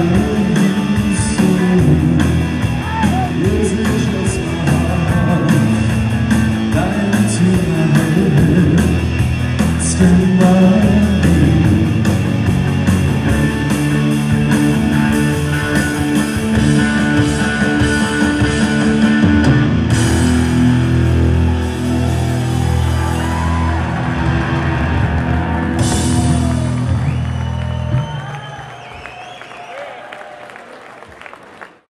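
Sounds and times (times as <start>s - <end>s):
live rock band playing: 0.0s - 28.7s.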